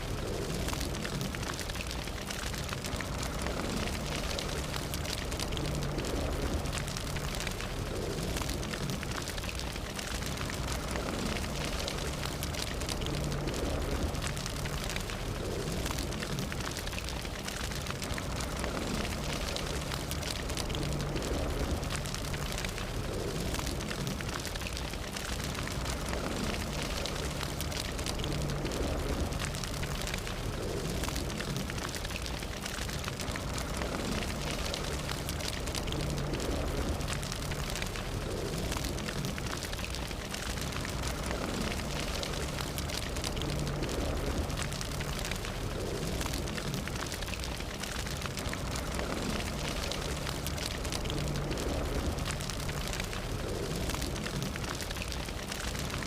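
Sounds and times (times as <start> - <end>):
fire crackling and popping: 0.0 - 56.0
fire low roar: 0.0 - 56.0.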